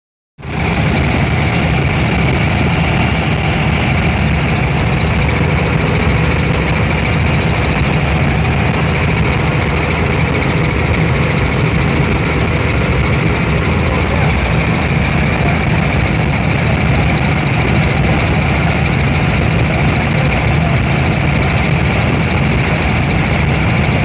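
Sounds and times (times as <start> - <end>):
helicopter engine and rotors droning: 0.4 - 24.0.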